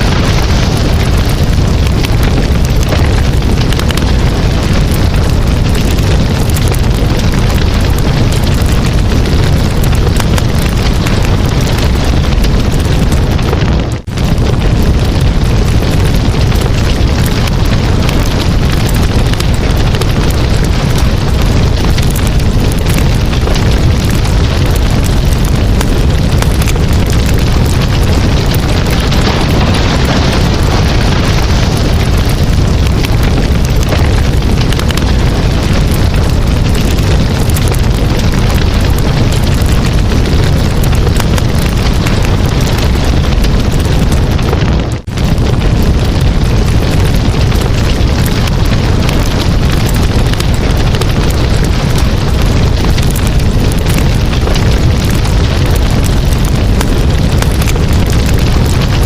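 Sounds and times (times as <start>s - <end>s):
campfire flames rushing: 0.0s - 59.0s
wood crackling and popping: 0.0s - 59.0s.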